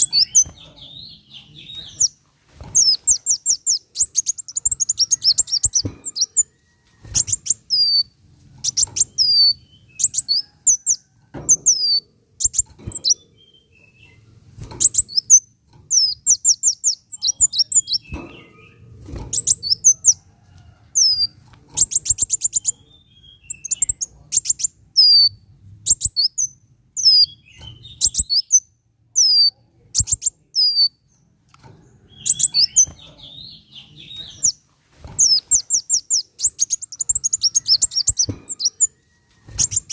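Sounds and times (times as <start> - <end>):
sunbird singing: 0.0 - 2.2, 2.8 - 6.5, 7.2 - 14.2, 14.8 - 20.2, 21.0 - 31.2, 32.0 - 34.6, 35.2 - 39.0.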